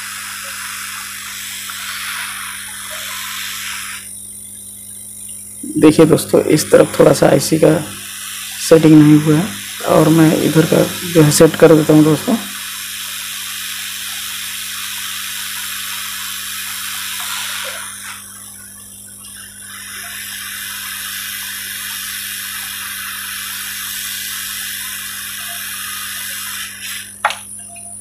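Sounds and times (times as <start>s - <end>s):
hot-air gun hissing: 0.0s - 27.6s.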